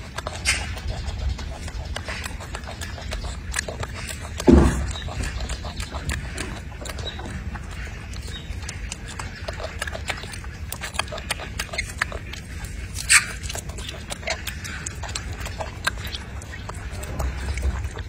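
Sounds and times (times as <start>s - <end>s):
monkey chewing fruit: 0.0s - 18.0s.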